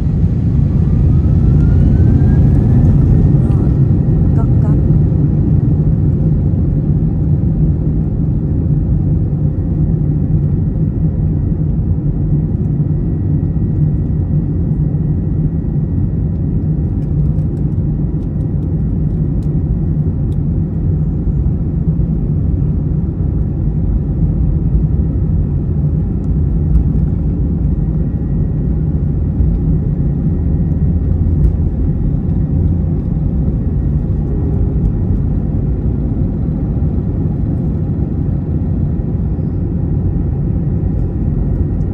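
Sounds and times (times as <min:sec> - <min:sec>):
jet engines and wheels rumbling: 0:00.0 - 0:41.9.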